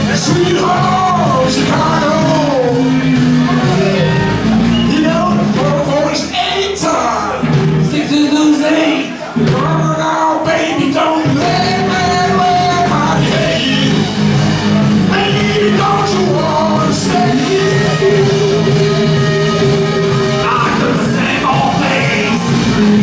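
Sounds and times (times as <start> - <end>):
bass guitar: 0.0 - 23.0
drums: 0.0 - 23.0
electric guitar: 0.0 - 23.0.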